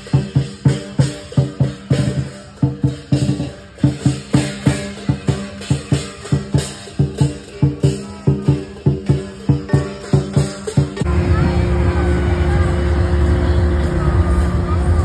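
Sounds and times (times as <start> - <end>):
big drum beaten fast: 0.0 - 15.0
crashing hand cymbals: 0.0 - 15.0.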